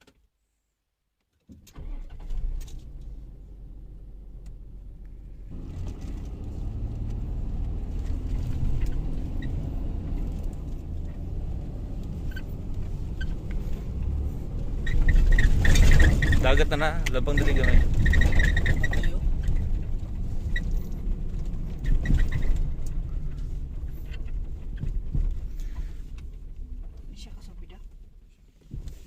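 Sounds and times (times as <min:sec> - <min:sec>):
car engine starting: 0:01.5 - 0:29.0
car engine running: 0:01.8 - 0:29.0.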